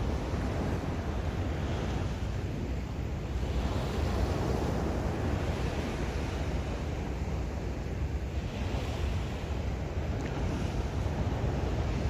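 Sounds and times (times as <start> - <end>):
sea washing against jetty: 0.0 - 12.0
wind across microphone: 0.0 - 12.0.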